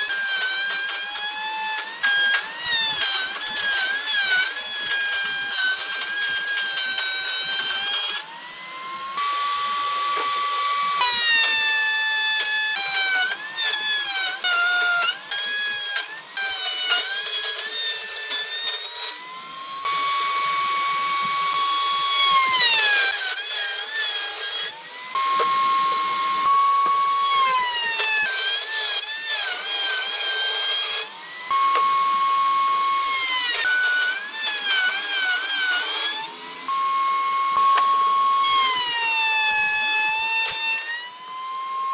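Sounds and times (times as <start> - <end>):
power tool motor whining: 0.0 - 41.9.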